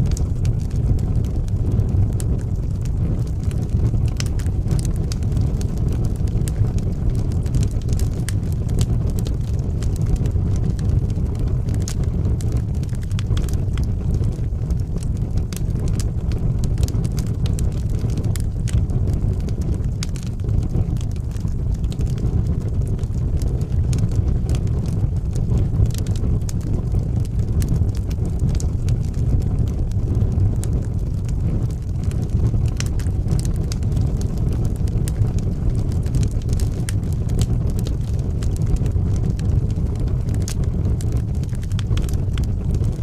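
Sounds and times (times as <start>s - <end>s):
burning wood crackling: 0.0s - 43.0s
flames rushing: 0.0s - 43.0s.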